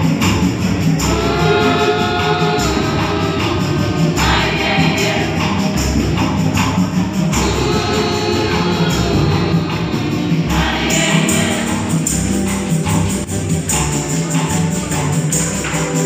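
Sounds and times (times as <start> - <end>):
choir and congregation singing: 0.0 - 16.0
percussion beat: 0.0 - 16.0.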